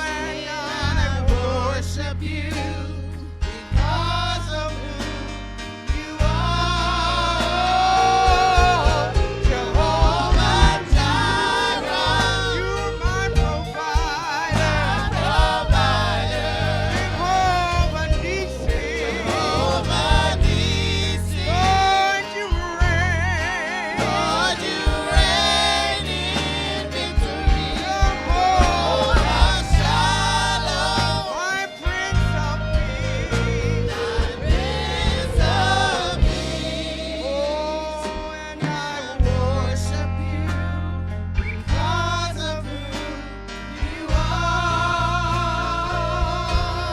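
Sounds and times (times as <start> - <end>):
gospel music with singers: 0.0 - 46.9.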